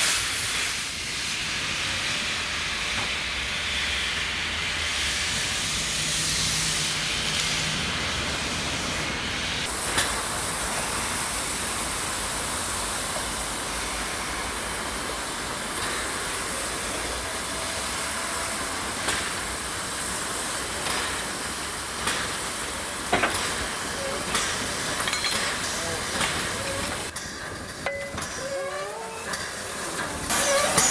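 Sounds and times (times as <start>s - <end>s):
steam locomotive hissing: 0.0s - 30.9s.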